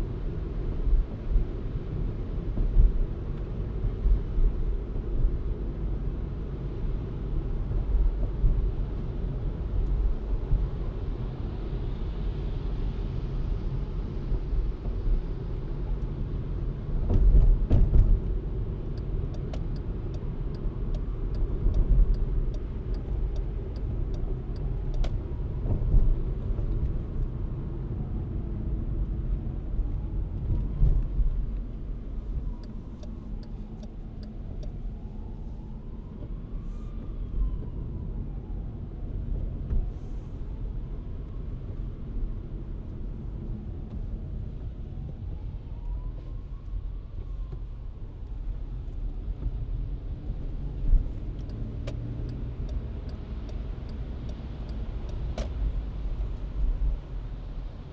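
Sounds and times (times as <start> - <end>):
car road rumble: 0.0 - 57.9.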